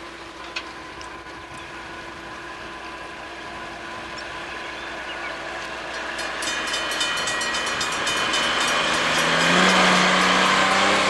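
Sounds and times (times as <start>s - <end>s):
rail maintenance machine engine: 0.0s - 11.0s
wheels clicking on track: 0.0s - 11.0s.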